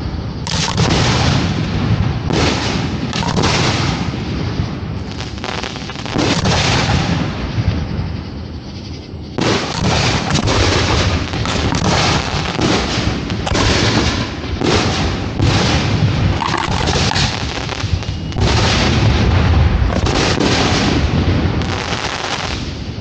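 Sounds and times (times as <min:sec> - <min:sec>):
fireworks booming and crackling: 0:00.0 - 0:08.4, 0:09.4 - 0:23.0.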